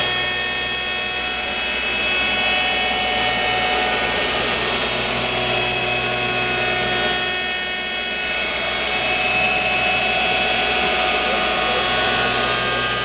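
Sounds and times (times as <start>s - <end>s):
cutter shaving wood: 0.0s - 13.0s
woodworking machine whine: 0.0s - 13.0s.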